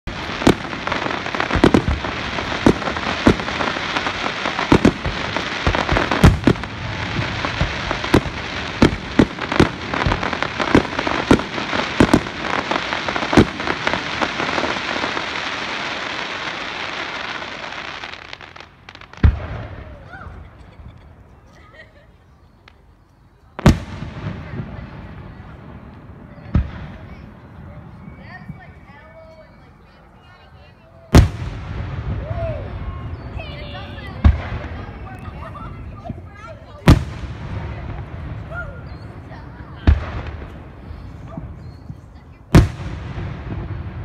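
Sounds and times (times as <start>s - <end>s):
fireworks booming: 0.0s - 21.0s, 23.6s - 28.8s, 31.1s - 44.0s
fireworks crackling: 0.0s - 44.0s.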